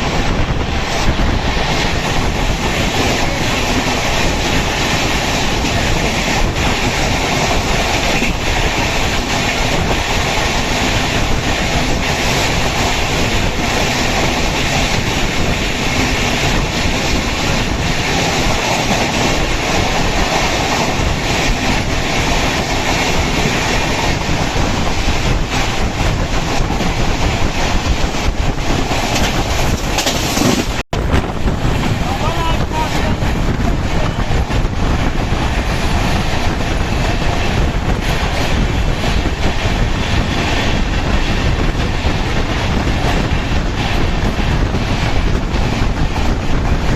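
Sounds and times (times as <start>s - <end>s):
train rumbling: 0.0s - 46.9s
wheels clicking over rail joints: 1.8s - 46.9s.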